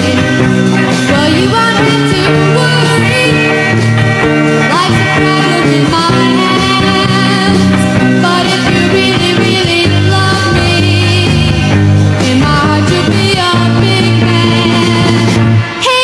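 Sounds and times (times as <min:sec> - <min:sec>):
pop song: 0:00.0 - 0:16.0.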